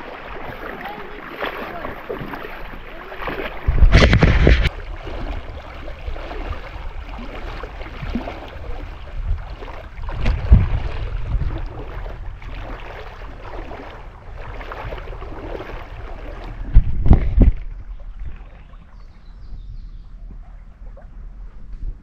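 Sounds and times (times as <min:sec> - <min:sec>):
water splashing from wading: 0:00.0 - 0:19.2
wind buffeting microphone: 0:03.2 - 0:22.0.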